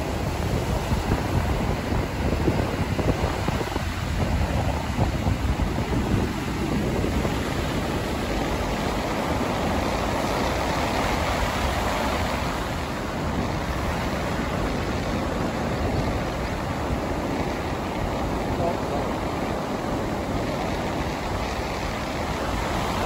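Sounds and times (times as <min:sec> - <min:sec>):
ocean surf breaking on sand: 0:00.0 - 0:23.0
wind rumbling on microphone: 0:00.0 - 0:23.0.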